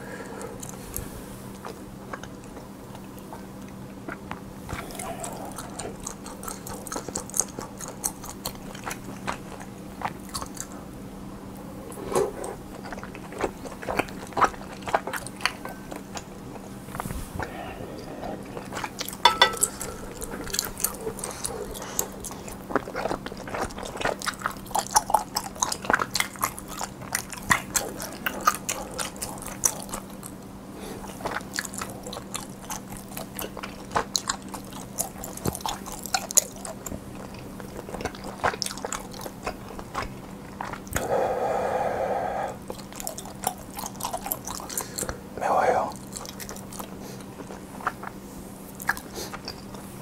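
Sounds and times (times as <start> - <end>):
person chewing with mouth open: 0.1 - 50.0.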